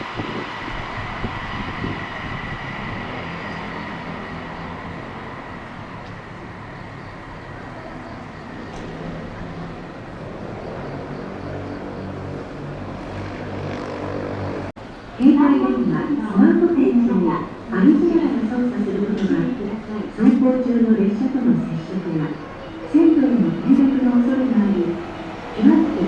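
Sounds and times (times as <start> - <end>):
train high whine: 0.0 - 26.0
train wheels rumbling: 0.0 - 26.0.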